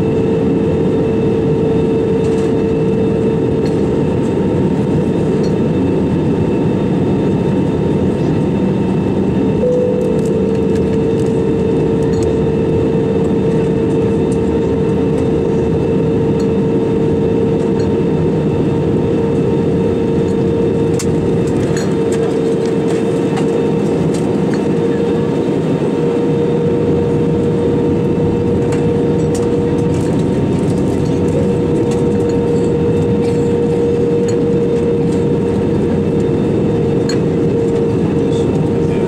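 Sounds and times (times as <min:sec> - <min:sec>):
airplane cabin engine roar: 0:00.0 - 0:39.0
steady hum: 0:00.0 - 0:39.0.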